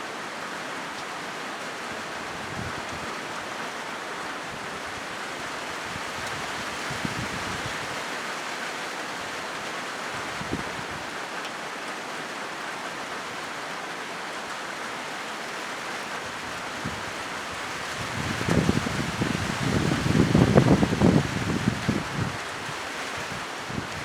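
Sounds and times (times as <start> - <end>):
rain on a metal roof: 0.0 - 24.0.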